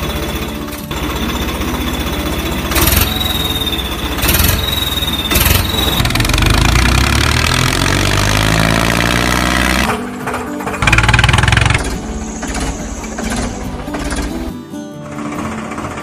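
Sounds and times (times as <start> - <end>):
tractor diesel engine chugging: 0.0 - 8.0, 9.9 - 16.0.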